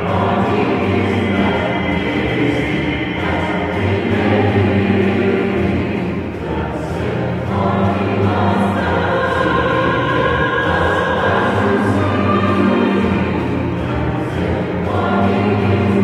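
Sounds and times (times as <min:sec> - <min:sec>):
choir singing: 0:00.0 - 0:16.0
symphony orchestra: 0:00.0 - 0:16.0.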